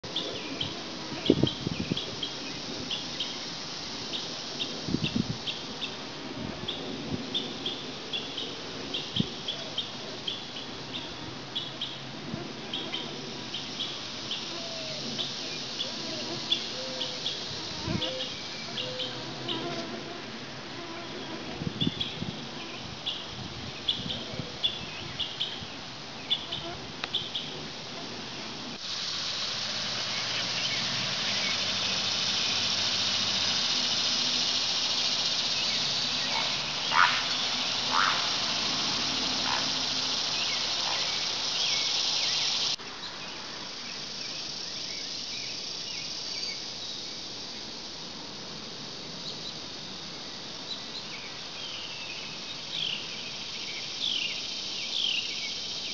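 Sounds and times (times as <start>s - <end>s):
cicadas buzzing: 0.0s - 55.9s
faint insect drone: 0.0s - 55.9s.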